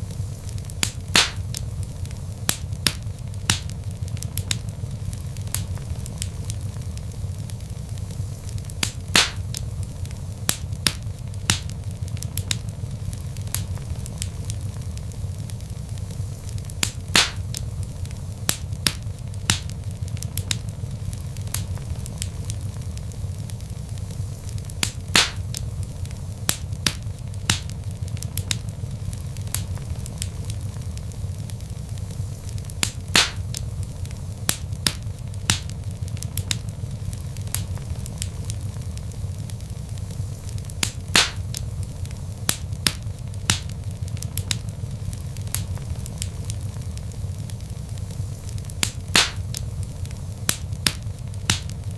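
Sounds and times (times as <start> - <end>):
log fire crackling and popping: 0.0 - 51.9
low rumble of flames: 0.0 - 51.9.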